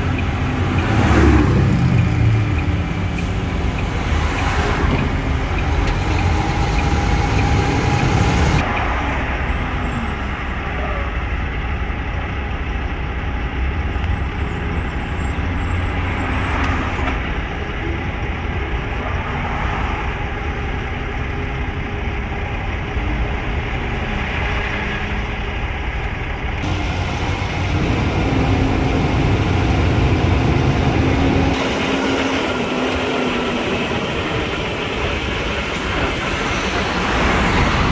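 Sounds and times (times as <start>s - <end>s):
road noise: 0.0s - 37.9s
truck diesel engine rumble: 0.0s - 37.9s.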